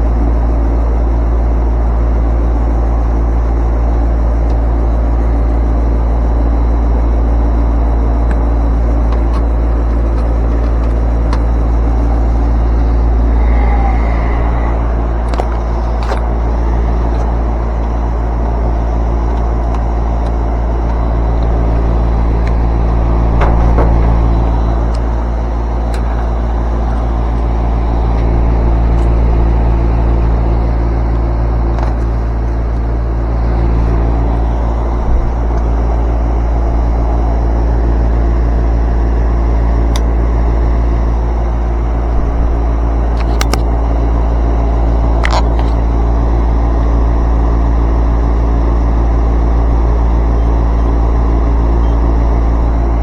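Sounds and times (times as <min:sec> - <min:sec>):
air conditioner motor hum: 0:00.0 - 0:53.0.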